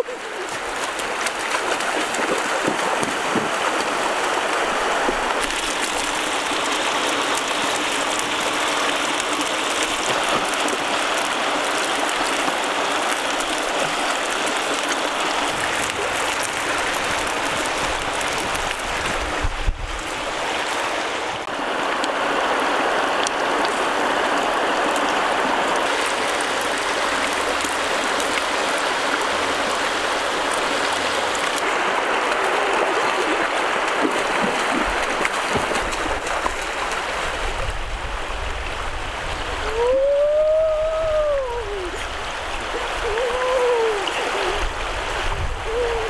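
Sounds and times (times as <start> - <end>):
river water rushing: 0.0 - 46.0
splashing of wading: 0.0 - 46.0.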